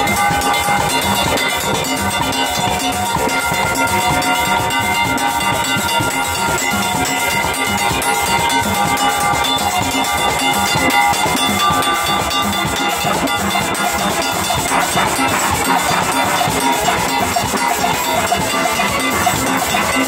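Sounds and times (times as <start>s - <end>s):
drum kit with cymbals: 0.0s - 20.0s
metal scraper rhythm: 0.0s - 20.0s
steelpans playing: 0.0s - 20.0s.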